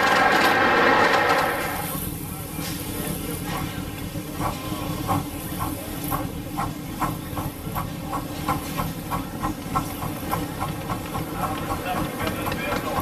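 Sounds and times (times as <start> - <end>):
steam hissing: 0.0 - 13.0
steam locomotive beat: 0.0 - 13.0.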